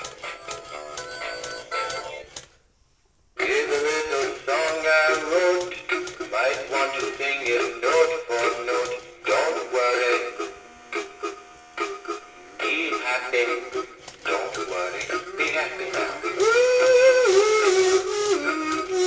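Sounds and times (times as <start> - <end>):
man singing over music from toy speaker: 0.0 - 2.6, 3.4 - 19.0.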